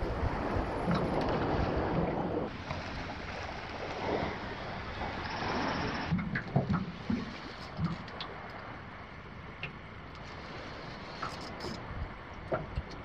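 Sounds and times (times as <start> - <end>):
water lapping: 0.0 - 13.0
wind buffeting microphone: 0.0 - 13.0.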